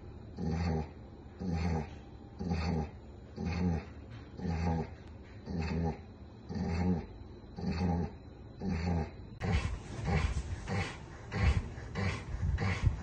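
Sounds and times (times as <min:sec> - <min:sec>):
dog groaning: 0:00.4 - 0:13.0.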